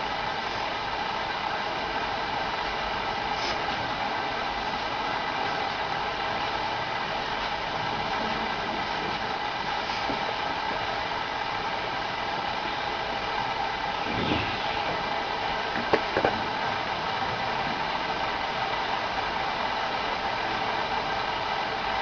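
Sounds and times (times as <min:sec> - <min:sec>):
background hum and hiss: 0:00.0 - 0:22.0
faint constant tones: 0:00.0 - 0:22.0.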